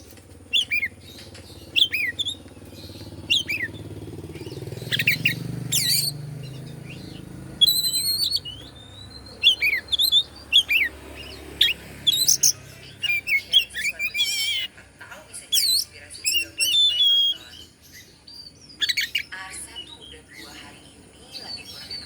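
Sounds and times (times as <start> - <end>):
bird singing whistles and chirps: 0.5 - 14.7, 15.5 - 22.0.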